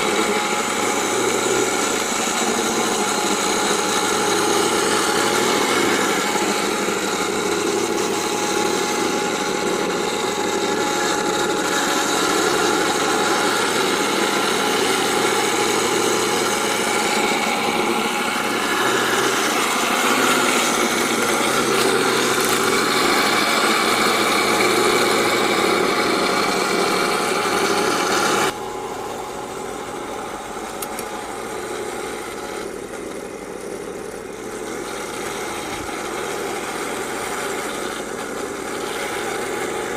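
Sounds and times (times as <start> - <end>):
electronic tank-engine sound: 0.0 - 39.9.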